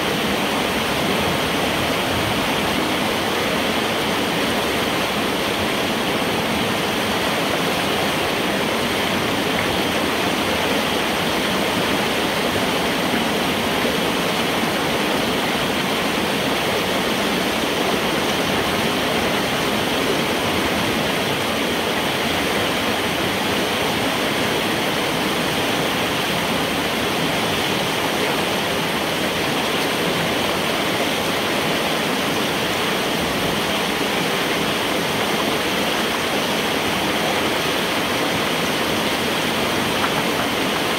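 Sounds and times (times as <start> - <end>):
water rushing through metal pipe: 0.0 - 40.9.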